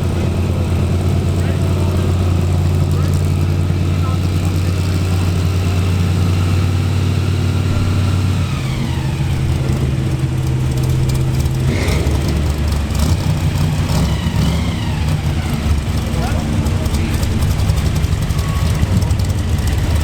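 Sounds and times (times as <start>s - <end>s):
drag racing engine idling: 0.0s - 20.0s.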